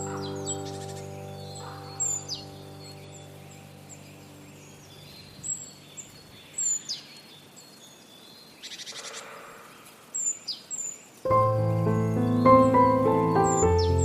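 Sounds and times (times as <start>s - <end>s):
outdoor ambience hiss: 0.0s - 14.0s.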